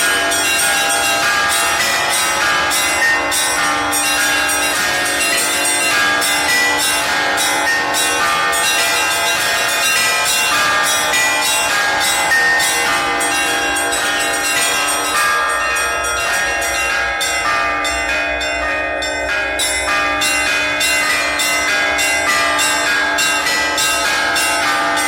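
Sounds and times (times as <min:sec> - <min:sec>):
deep church bells ringing: 0:00.0 - 0:25.0
small church bells struck quickly: 0:00.0 - 0:25.0.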